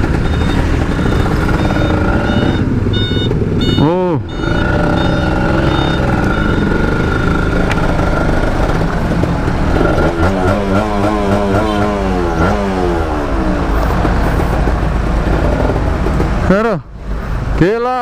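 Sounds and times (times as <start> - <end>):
motorcycle engine running: 0.0 - 16.6.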